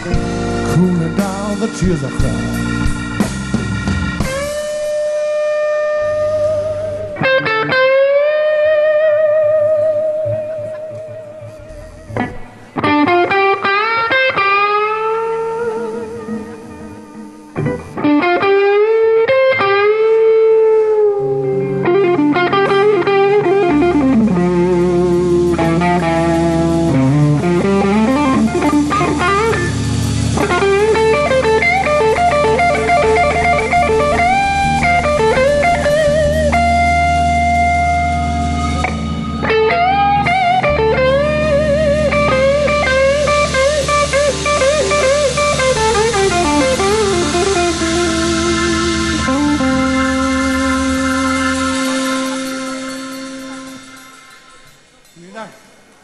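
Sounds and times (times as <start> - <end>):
electric guitar solo: 0.0 - 55.0
blues band playing: 0.0 - 55.9.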